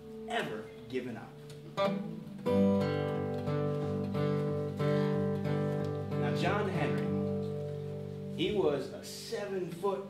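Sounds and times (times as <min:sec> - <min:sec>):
acoustic guitar strummed chords: 0:00.0 - 0:10.0.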